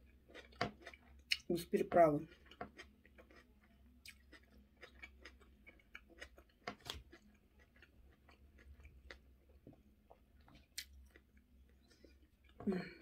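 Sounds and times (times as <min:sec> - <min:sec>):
faint crunchy chewing: 0:00.0 - 0:13.0.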